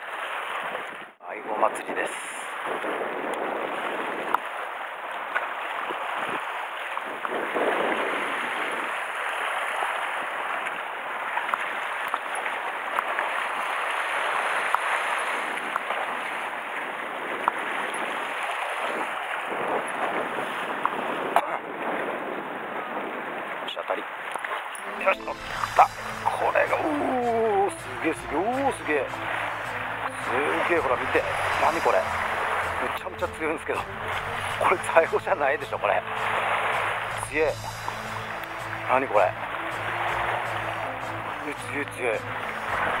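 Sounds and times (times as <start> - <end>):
sea water washing against rocks: 1.9 - 23.3, 24.3 - 43.0.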